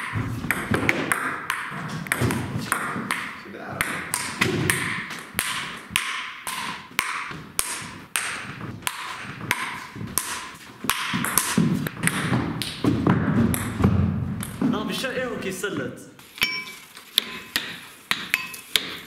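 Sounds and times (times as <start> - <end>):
ping-pong ball hits echoing: 0.0 - 14.7, 16.4 - 19.0.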